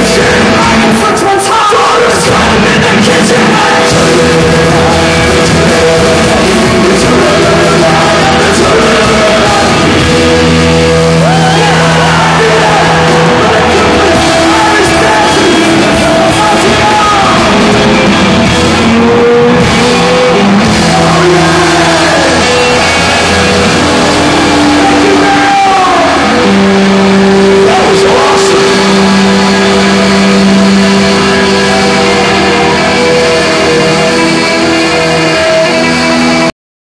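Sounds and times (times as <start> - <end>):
loud folk-rock music: 0.0 - 36.5.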